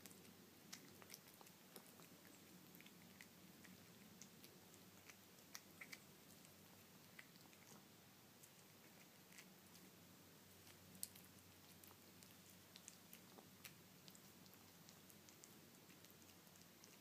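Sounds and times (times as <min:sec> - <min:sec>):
cat chewing and licking: 0:00.0 - 0:17.0
low room hum: 0:00.0 - 0:17.0.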